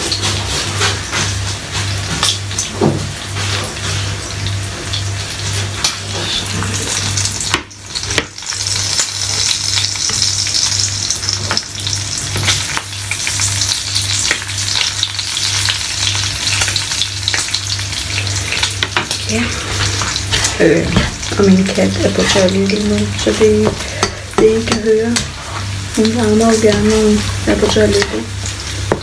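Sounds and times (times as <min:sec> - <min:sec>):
bacon sizzling in a frying pan: 0:00.0 - 0:29.0.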